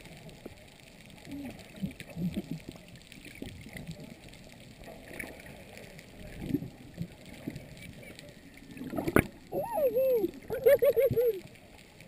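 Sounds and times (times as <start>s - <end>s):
muffled underwater sloshing: 0.0s - 12.0s.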